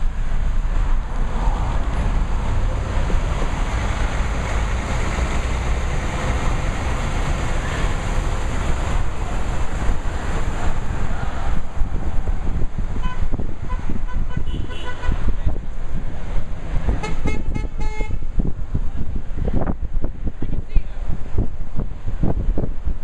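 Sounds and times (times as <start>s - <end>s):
road noise inside a car: 0.0s - 23.0s.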